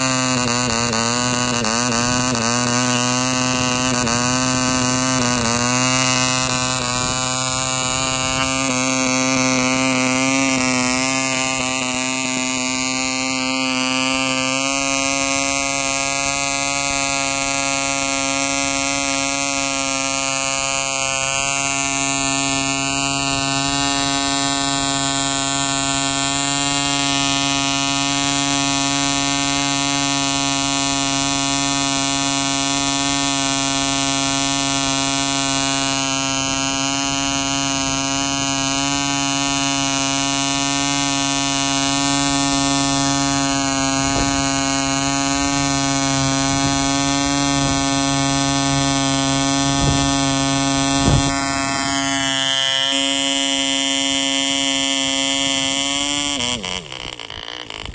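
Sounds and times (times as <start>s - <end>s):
model diesel engine buzzing: 0.0s - 57.9s.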